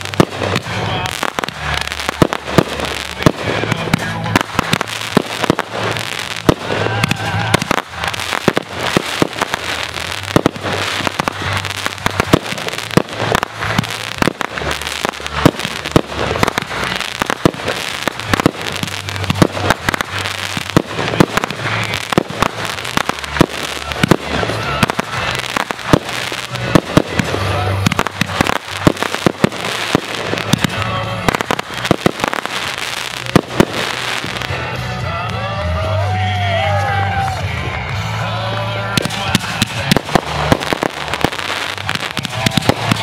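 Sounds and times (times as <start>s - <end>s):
fireworks bangs: 0.0s - 35.0s, 38.9s - 43.0s.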